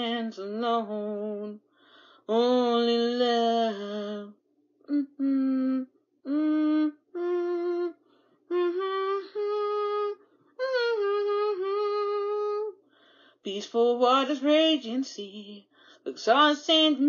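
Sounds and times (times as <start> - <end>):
woman singing unaccompanied: 0.0 - 1.6, 2.3 - 7.9, 8.5 - 12.7, 13.5 - 17.0.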